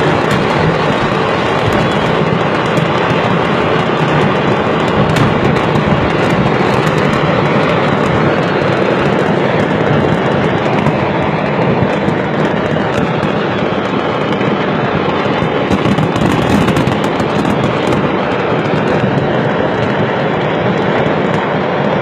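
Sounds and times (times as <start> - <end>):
car road and wind noise: 0.0 - 22.0
fireworks crackling and popping: 0.0 - 22.0.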